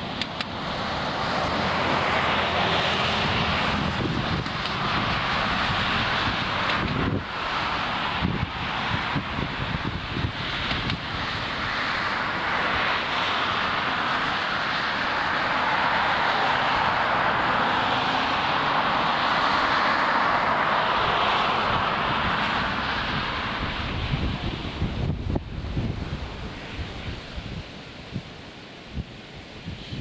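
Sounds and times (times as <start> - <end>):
jet airliner roar: 0.0 - 30.0.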